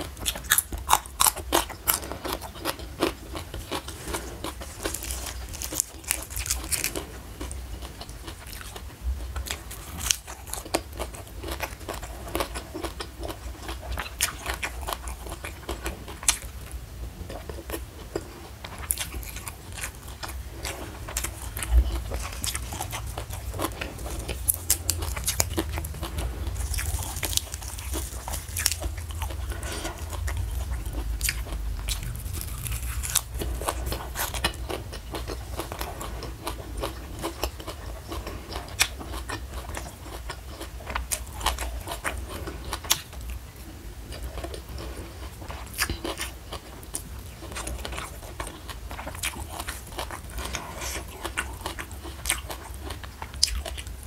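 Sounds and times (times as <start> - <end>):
chewing crunchy leafy greens: 0.0 - 54.0.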